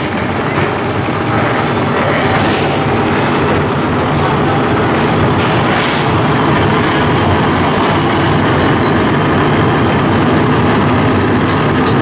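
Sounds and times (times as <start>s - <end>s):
race truck engines rumbling: 0.0s - 12.0s.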